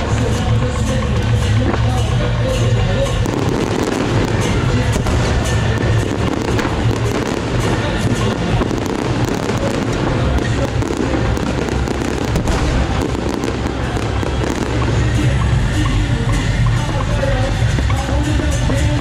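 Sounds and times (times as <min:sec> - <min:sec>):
fireworks crackles and pops: 0:00.0 - 0:19.0
music playing: 0:00.0 - 0:19.0.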